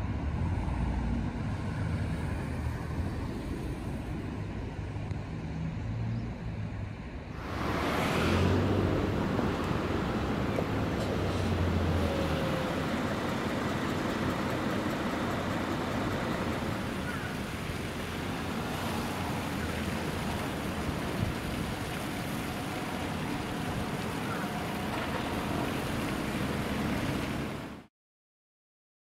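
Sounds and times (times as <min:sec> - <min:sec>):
road traffic rumble: 0:00.0 - 0:27.9.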